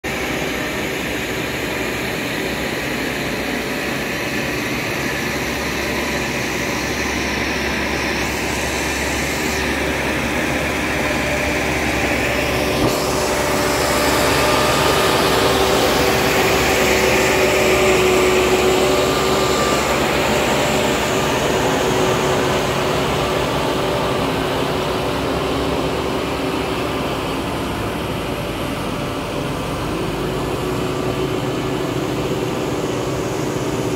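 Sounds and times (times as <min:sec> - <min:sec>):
tractor diesel engine: 0:00.0 - 0:33.9.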